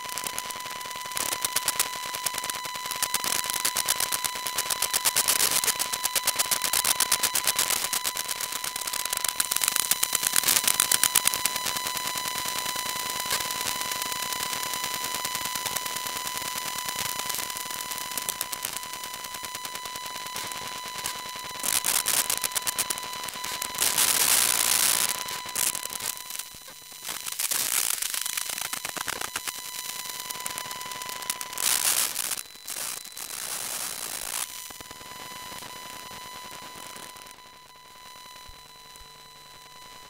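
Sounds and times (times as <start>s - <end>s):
bursts of static hiss: 0.0s - 40.0s
buzzing crackle of rapid clicks: 0.0s - 40.0s
steady high whine: 0.0s - 40.0s.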